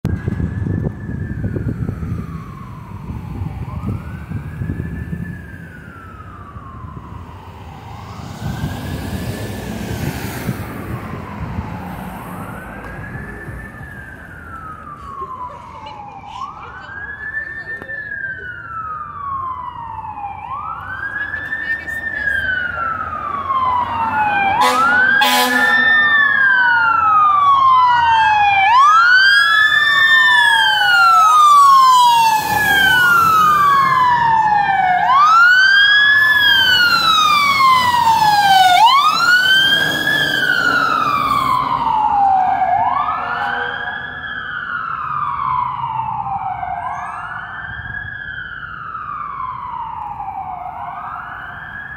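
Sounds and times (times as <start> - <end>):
fire engine sirens wailing: 0.0 - 51.9
short steady siren blare: 0.1 - 51.9.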